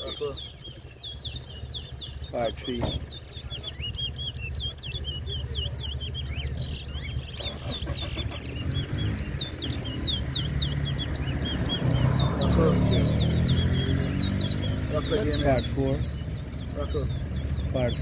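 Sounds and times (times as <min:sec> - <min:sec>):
finches chirping: 0:00.0 - 0:18.0.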